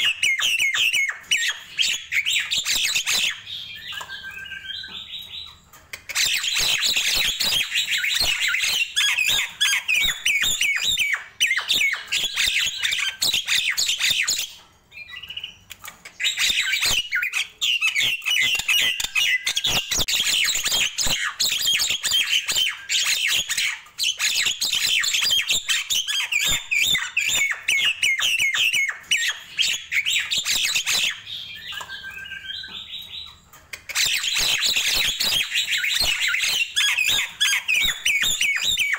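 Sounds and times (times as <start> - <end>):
myna bird chattering and whistling: 0.0 - 38.9.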